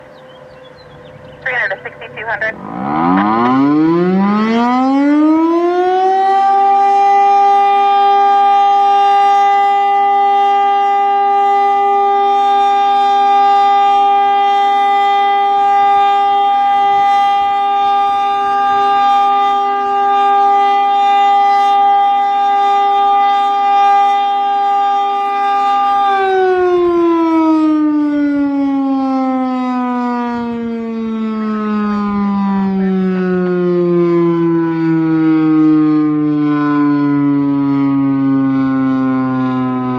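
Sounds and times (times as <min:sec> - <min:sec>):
electromechanical warning siren: 0:00.0 - 0:39.9.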